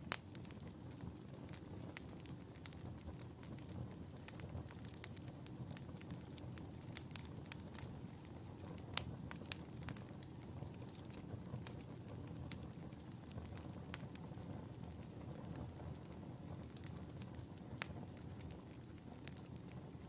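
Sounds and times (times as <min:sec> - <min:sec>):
fire crackles and pops: 0:00.0 - 0:20.0
wood fire rumbling: 0:00.0 - 0:20.0.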